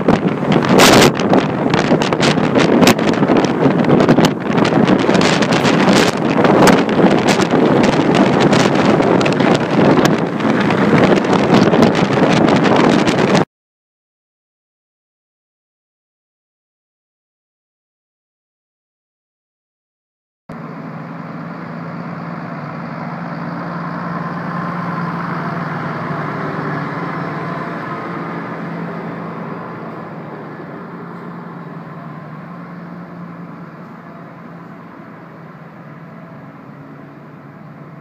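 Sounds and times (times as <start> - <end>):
engine hum: 0.0 - 13.5, 20.5 - 38.0.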